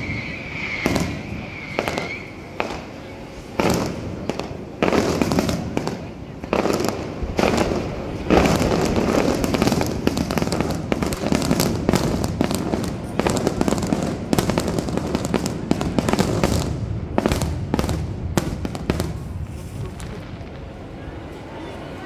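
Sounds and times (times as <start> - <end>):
fireworks bursting: 0.0 - 21.5
continuous rumble: 0.0 - 22.0
fireworks crackle: 0.0 - 22.0.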